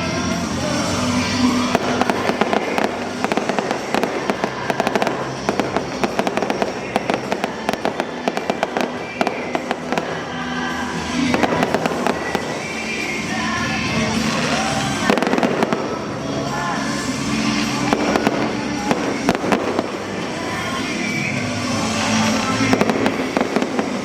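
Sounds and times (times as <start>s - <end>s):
fireworks crackling and banging: 0.0s - 24.0s
music playing: 0.0s - 24.0s.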